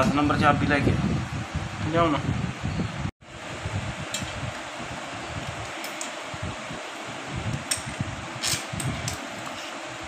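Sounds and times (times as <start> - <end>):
steady fan-like whirring: 0.0 - 10.0.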